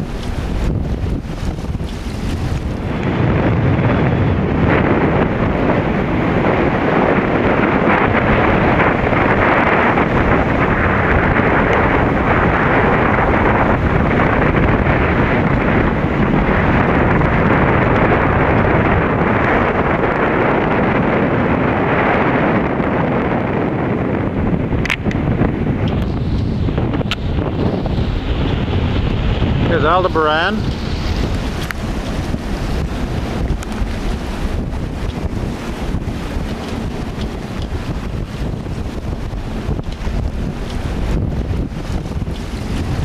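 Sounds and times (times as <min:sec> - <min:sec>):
strong wind on microphone: 0:00.0 - 0:43.0.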